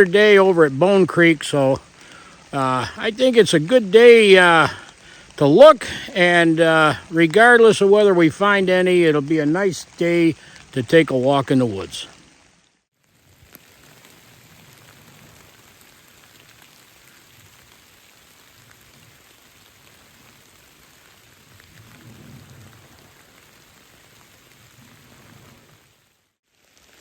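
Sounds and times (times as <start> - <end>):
steady rain in woodland: 0.0 - 27.0.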